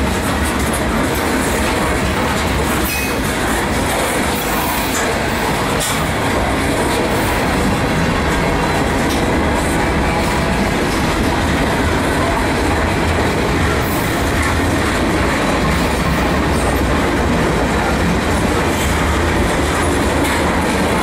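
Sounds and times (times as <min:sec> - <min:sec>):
train wheels rumbling on rail: 0:00.0 - 0:21.0
wheels clicking over rail joints: 0:00.0 - 0:21.0.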